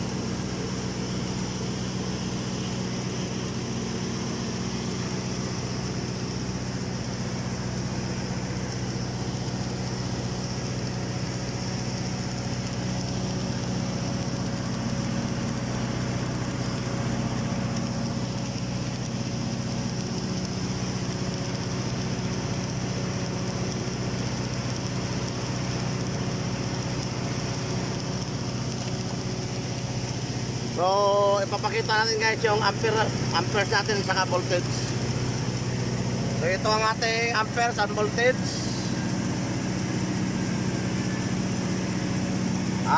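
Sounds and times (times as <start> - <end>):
welding machine hum and hiss: 0.0 - 42.9.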